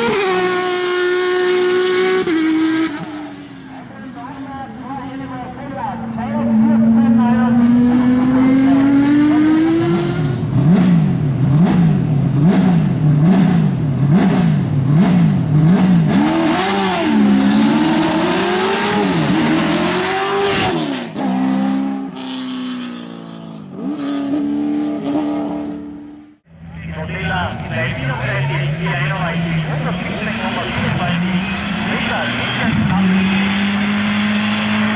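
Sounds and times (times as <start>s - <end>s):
race car accelerating away: 0.0s - 34.9s
race car engine at steady revs: 0.0s - 34.9s
race car engine revving: 0.0s - 34.9s.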